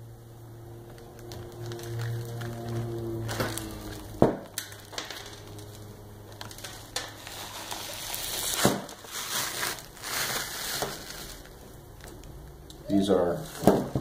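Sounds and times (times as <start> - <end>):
armor plate crunching and crackling: 0.9 - 12.2.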